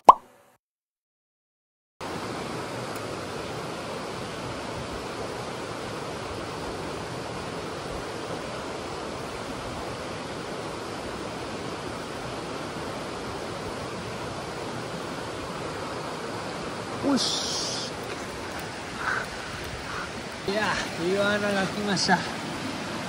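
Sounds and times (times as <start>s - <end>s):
stream running over rocks: 2.0s - 23.0s.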